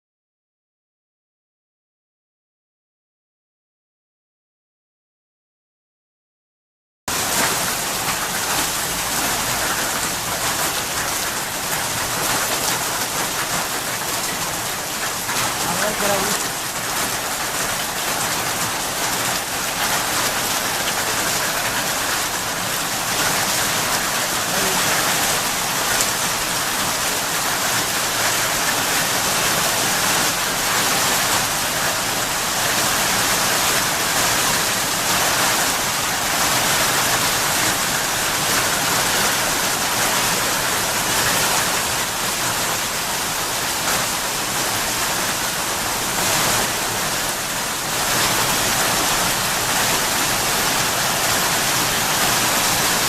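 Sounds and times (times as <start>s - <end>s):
hail and rain pelting: 7.1s - 53.0s.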